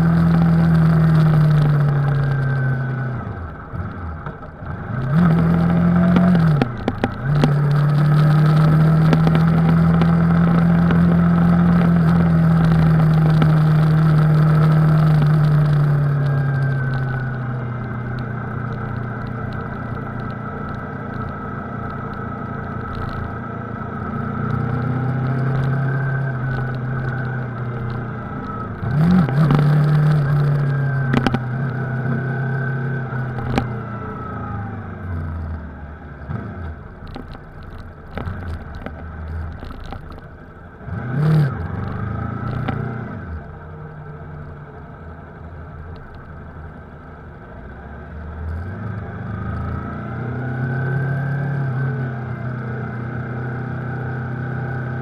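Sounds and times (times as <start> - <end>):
motorcycle engine revving: 0.0 - 44.8, 47.7 - 55.0.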